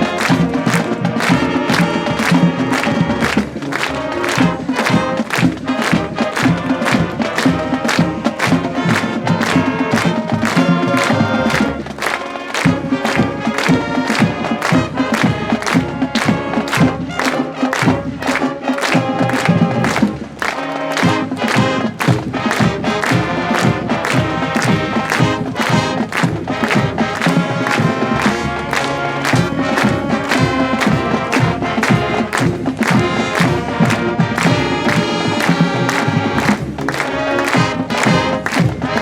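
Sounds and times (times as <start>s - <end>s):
crowd noise: 0.0s - 39.0s
marching band playing: 0.0s - 39.0s.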